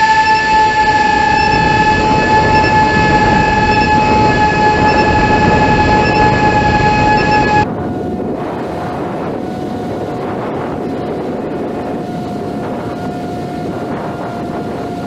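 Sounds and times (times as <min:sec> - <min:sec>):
electric motor high whine: 0:00.0 - 0:15.0
rushing wind noise: 0:00.0 - 0:15.0.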